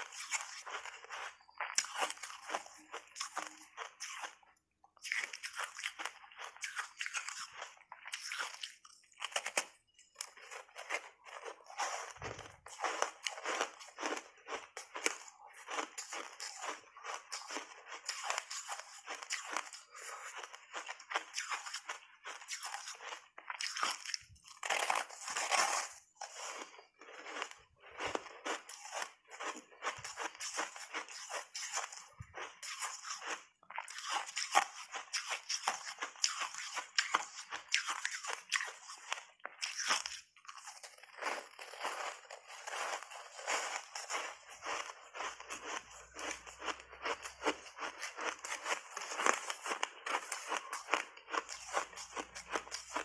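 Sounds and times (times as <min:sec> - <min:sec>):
ice crunching while chewed: 0:00.0 - 0:53.0.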